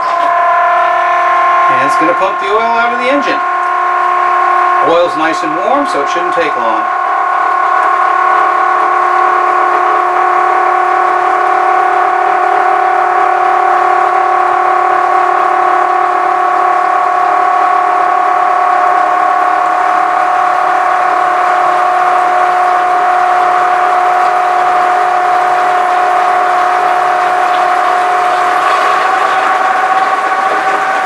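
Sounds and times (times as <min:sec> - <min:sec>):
electric pump whining: 0:00.0 - 0:31.0.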